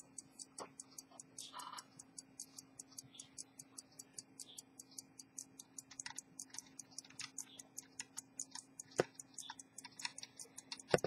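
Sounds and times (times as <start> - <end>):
faint steady hum: 0.0 - 11.0
pocket watch ticking: 0.0 - 11.0.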